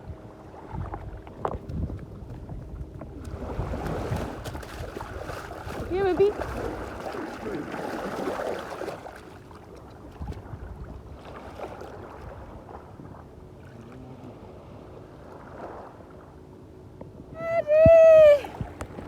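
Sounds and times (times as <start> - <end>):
sea water lapping at shore: 0.2 - 16.8.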